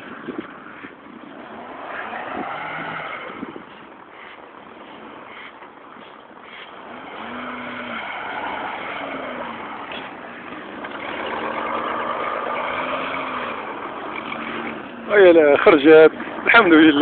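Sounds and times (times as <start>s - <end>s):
car engine revving: 0.0s - 5.5s, 6.5s - 17.0s.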